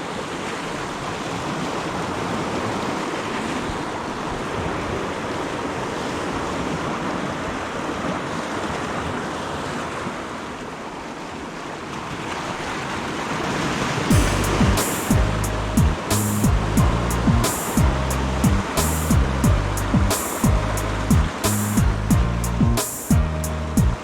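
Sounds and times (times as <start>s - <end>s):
sea waves washing ashore: 0.0s - 24.0s.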